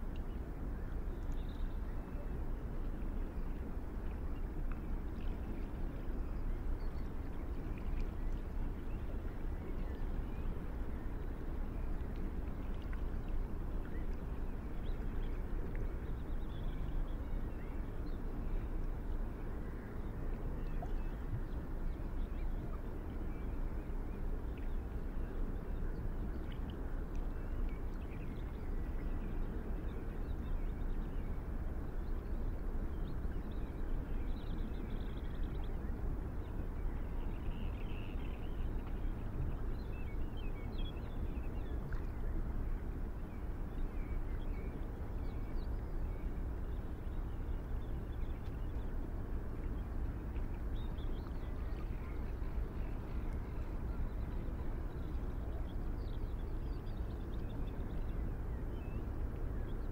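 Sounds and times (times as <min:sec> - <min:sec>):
low outdoor background noise: 0:00.0 - 0:59.9.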